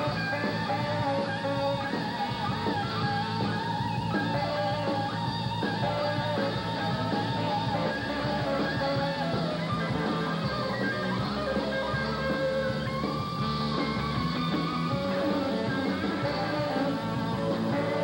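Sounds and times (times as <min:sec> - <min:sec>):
electric guitar lead notes: 0:00.0 - 0:18.0
rock band playing: 0:00.0 - 0:18.0.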